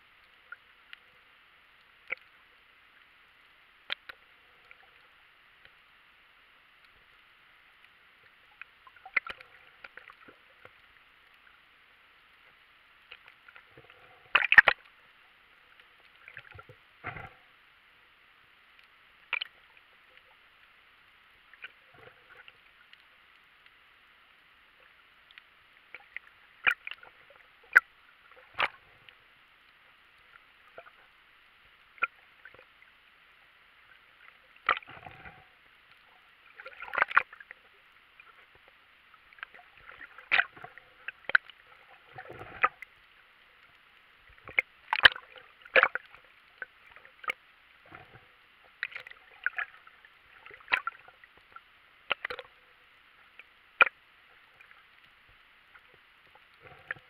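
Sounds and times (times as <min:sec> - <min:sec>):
low rumble of rushing water: 0:00.0 - 0:57.0.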